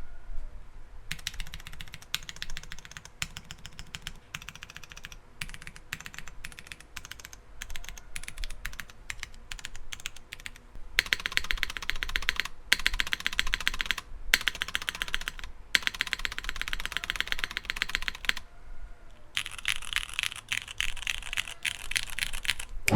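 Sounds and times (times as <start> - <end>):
typing on mechanical keyboard: 1.1 - 18.4, 19.4 - 22.9.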